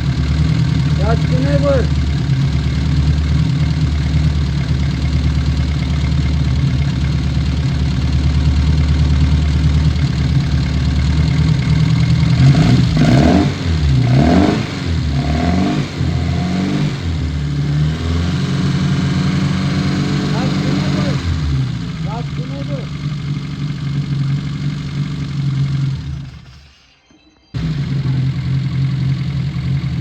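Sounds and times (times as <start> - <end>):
car engine idling and revving: 0.0 - 26.8, 27.6 - 30.0.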